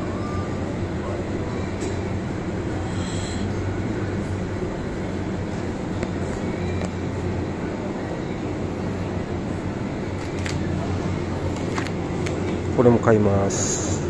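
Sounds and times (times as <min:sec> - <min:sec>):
refrigerator and ventilation hum: 0:00.0 - 0:14.0.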